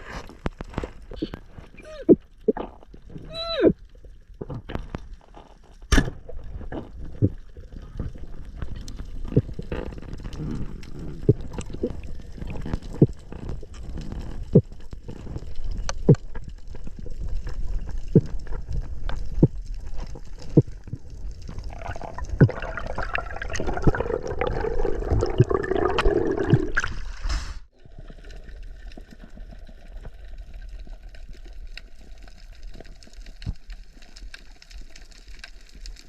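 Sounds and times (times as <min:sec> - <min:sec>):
sharp clicks and knocks underwater: 0:00.0 - 0:27.1, 0:28.0 - 0:36.0
low rumble of moving water: 0:00.0 - 0:36.0.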